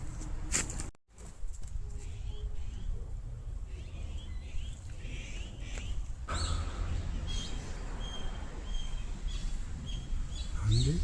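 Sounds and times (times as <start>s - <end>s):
small birds chirping: 2.0s - 11.0s.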